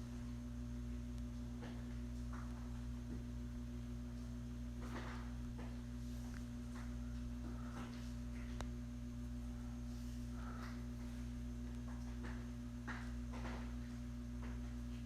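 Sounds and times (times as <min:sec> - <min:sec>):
electric fan motor hum: 0:00.0 - 0:15.0.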